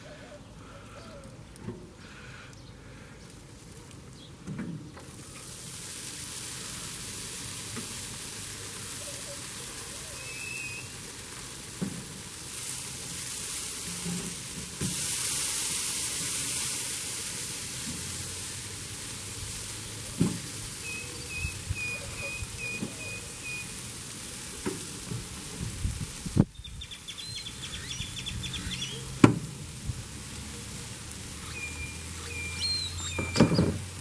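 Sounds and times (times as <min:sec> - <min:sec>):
steaks sizzling on a grill: 0:05.1 - 0:34.0.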